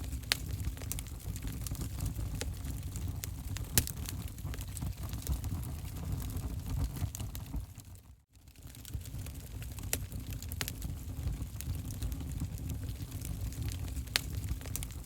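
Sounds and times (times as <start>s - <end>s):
fire crackles and pops: 0.0s - 15.0s
rumble of fire flames: 0.0s - 15.0s.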